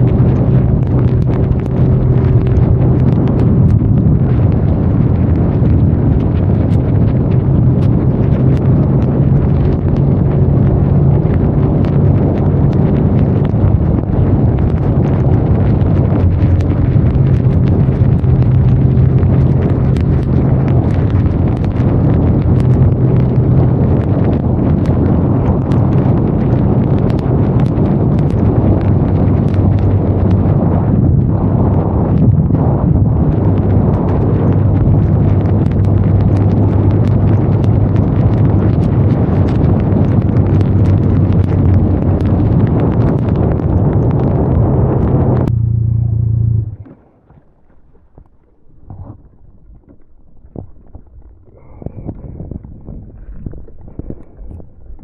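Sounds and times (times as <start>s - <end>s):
motorcycle engine running: 0.0s - 32.0s, 34.6s - 46.9s
rain ticking on microphone: 0.0s - 55.0s
wind rush: 0.0s - 55.0s.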